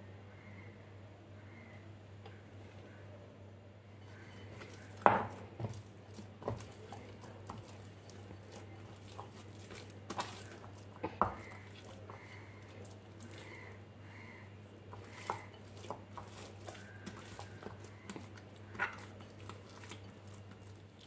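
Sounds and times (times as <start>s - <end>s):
hands kneading dough: 4.0s - 21.0s.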